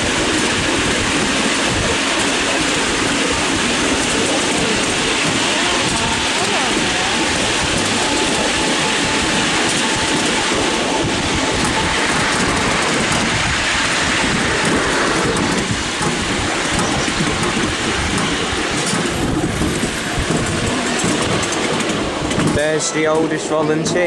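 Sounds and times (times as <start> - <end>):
wheels clattering on rails: 0.0 - 24.0.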